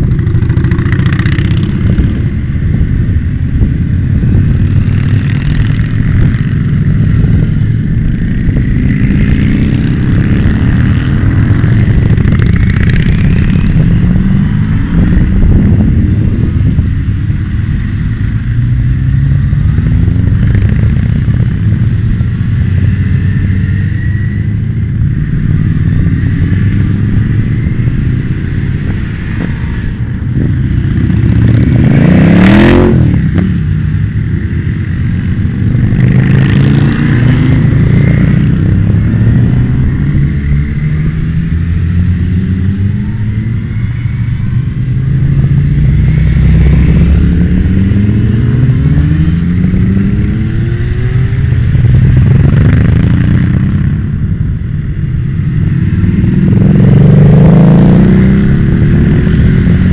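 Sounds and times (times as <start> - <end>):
motorcycles revving past: 0.0 - 59.9.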